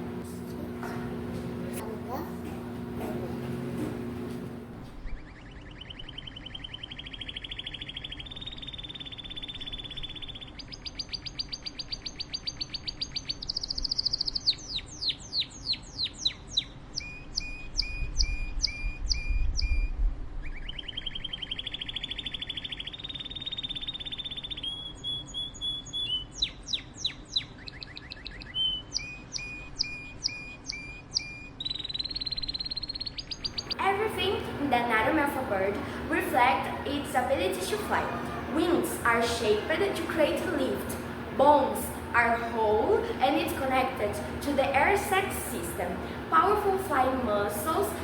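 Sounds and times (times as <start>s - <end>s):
songbird singing: 4.8s - 19.7s, 20.5s - 45.3s.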